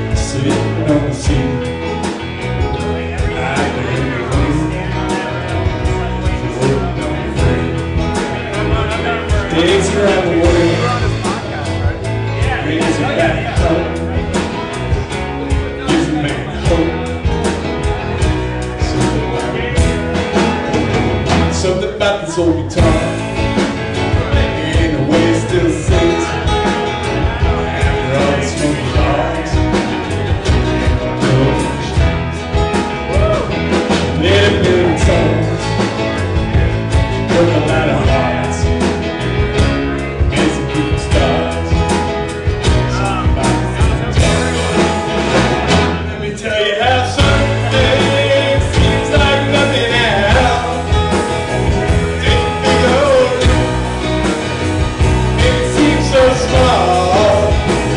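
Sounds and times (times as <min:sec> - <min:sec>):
steady drum beat: 0:00.0 - 0:21.9, 0:22.6 - 0:46.2, 0:46.8 - 0:57.9
acoustic guitar: 0:00.0 - 0:57.9
country-rock band playing: 0:00.0 - 0:57.9
electric bass: 0:00.0 - 0:57.9
keyboard: 0:00.0 - 0:57.9.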